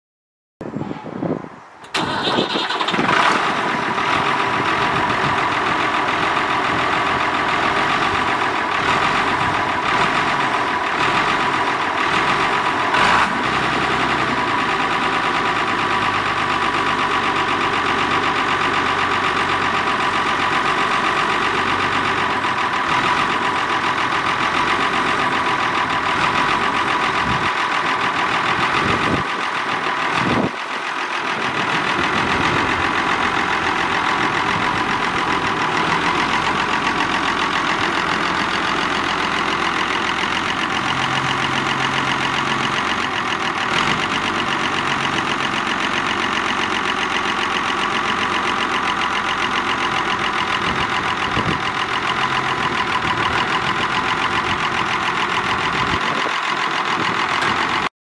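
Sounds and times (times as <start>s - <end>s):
tractor diesel engine running: 1.1s - 57.9s.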